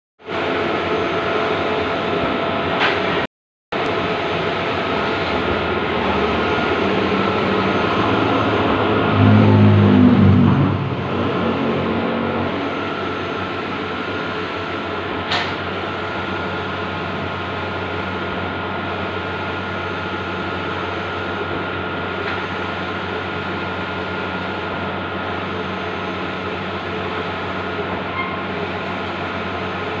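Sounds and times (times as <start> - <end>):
printer humming and whirring: 0.2 - 3.2, 3.8 - 30.0.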